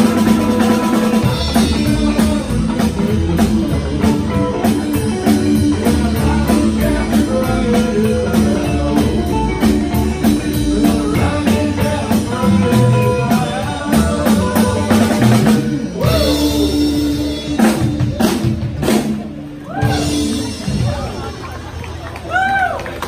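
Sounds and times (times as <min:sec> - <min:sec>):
band ensemble hits: 0:00.0 - 0:21.7
drum kit: 0:00.0 - 0:22.7
electric guitars: 0:00.0 - 0:23.0
upright bass: 0:00.0 - 0:23.0.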